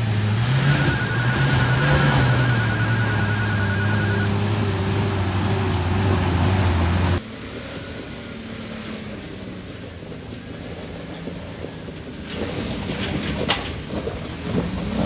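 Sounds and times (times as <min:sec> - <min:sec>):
vehicle engine running: 0:00.0 - 0:14.7
outdoor background: 0:00.0 - 0:15.0.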